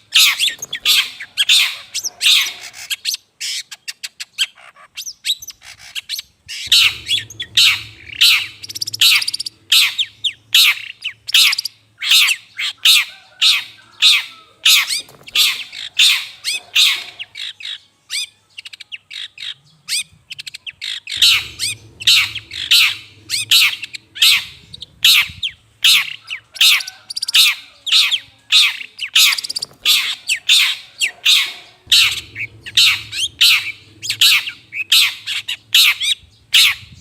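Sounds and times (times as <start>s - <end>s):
bird harsh scolding calls: 0.0s - 3.8s, 4.4s - 17.8s, 20.8s - 37.0s.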